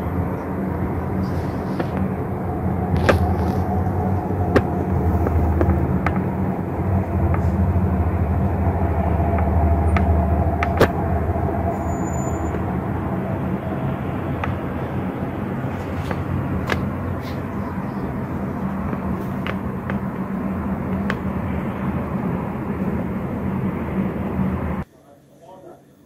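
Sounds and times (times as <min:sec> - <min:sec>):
low outdoor rumble: 0:00.0 - 0:24.9
faint hum: 0:00.0 - 0:26.0.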